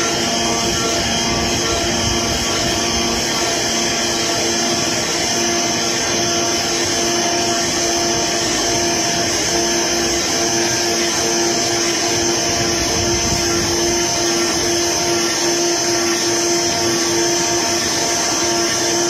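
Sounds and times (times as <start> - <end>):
cutting machine whirring hum: 0.0 - 19.0.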